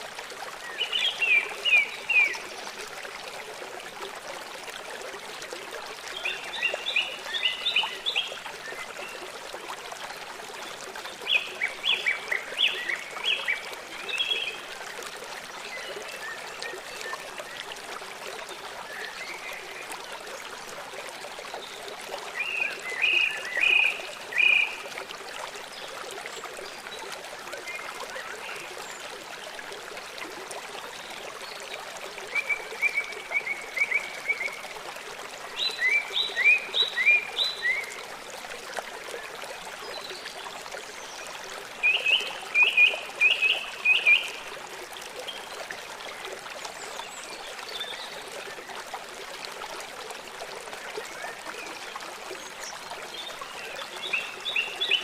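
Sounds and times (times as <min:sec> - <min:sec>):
trickling stream: 0:00.0 - 0:55.0.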